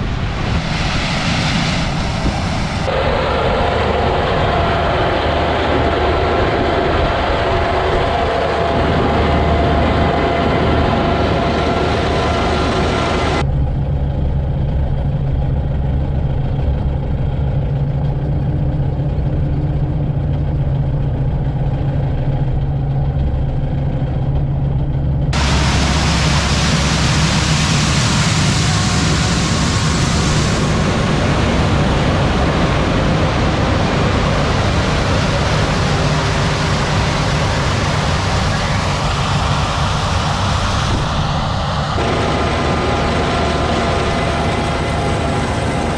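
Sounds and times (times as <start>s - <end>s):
tractor engine droning: 0.0s - 45.9s.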